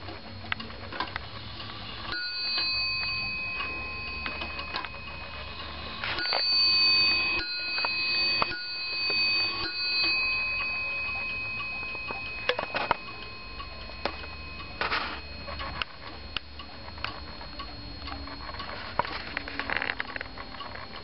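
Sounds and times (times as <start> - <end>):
clock ticking: 0.0 - 21.0
clock bell ringing: 1.5 - 21.0.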